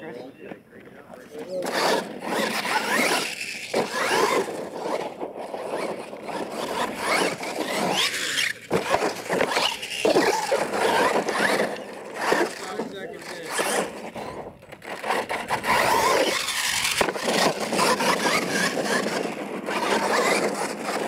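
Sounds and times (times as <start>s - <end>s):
rc truck motor and gear whine: 1.4s - 21.0s.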